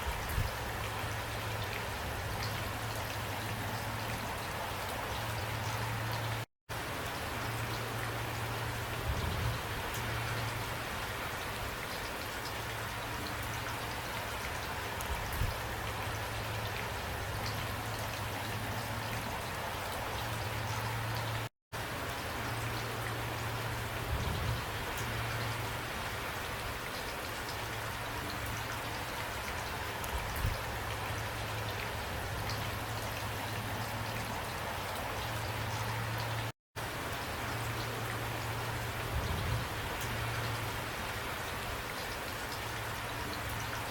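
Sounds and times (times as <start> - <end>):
steady rain patter: 0.0 - 43.9.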